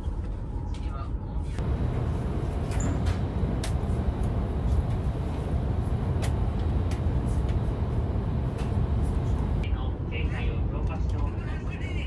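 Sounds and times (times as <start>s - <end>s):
train cabin low rumble: 0.1s - 12.0s.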